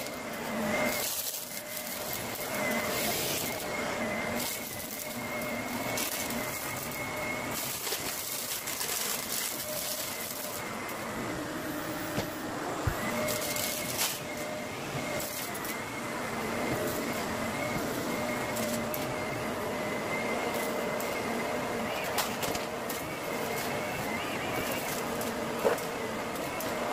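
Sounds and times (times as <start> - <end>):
vacuum cleaner running on carpet: 0.0 - 26.9.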